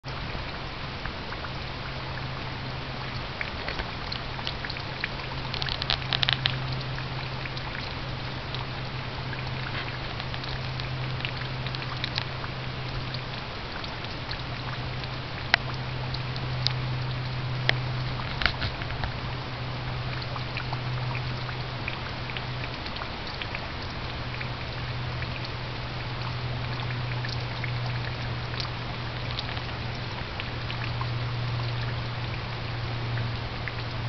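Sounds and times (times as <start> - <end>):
low hum and hiss: 0.0 - 34.0.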